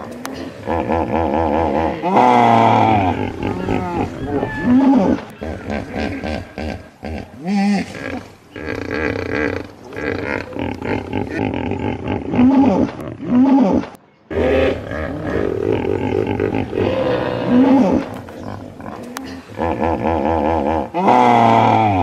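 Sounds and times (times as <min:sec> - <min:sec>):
hippopotamus grunts and honks: 0:00.0 - 0:22.0.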